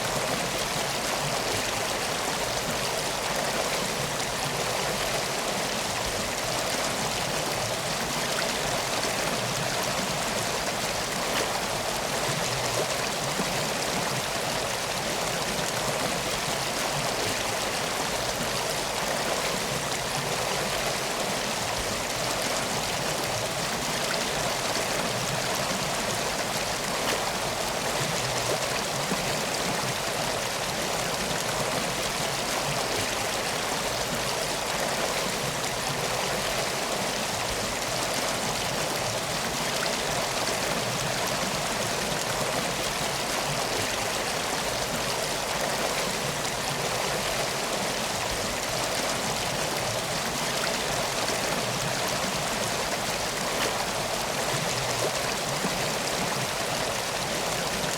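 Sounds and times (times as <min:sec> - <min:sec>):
flowing water rushing: 0:00.0 - 0:57.9.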